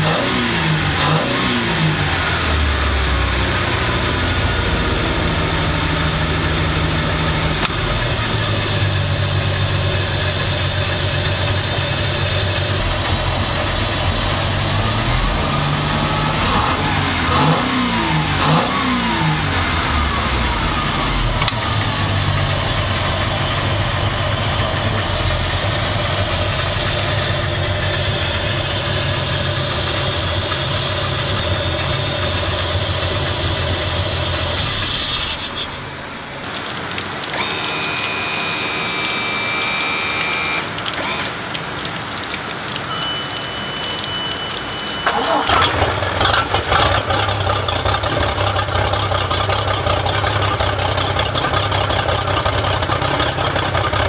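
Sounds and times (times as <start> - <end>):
boat engine idling and revving: 0.0 - 43.0, 44.9 - 54.0.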